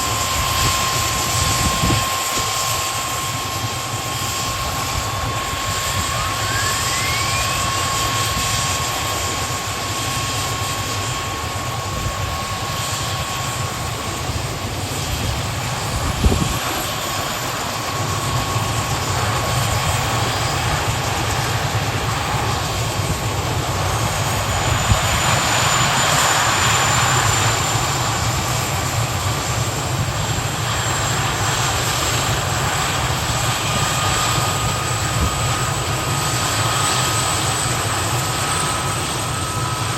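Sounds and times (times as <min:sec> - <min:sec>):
helicopter engines whining: 0:00.0 - 0:39.9.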